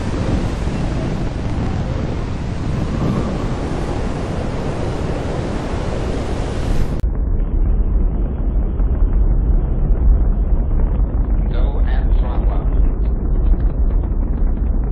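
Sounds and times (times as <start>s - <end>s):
rocket launch rushing and rumble: 0.0s - 14.9s.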